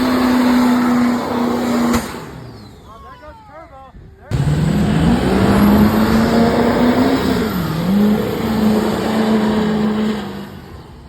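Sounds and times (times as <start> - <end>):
diesel truck engine revving: 0.0 - 2.9, 4.3 - 11.0
rushing exhaust noise: 0.0 - 3.0, 4.3 - 11.0.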